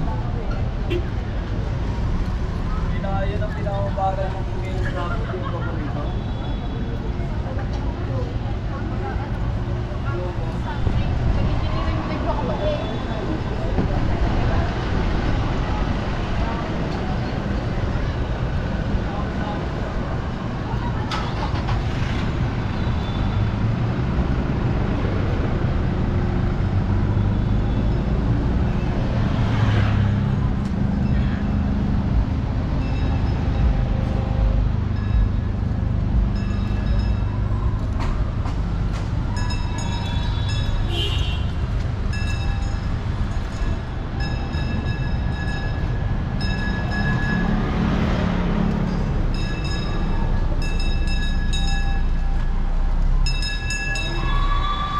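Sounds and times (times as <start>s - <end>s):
vehicle engines passing: 0.0s - 54.9s.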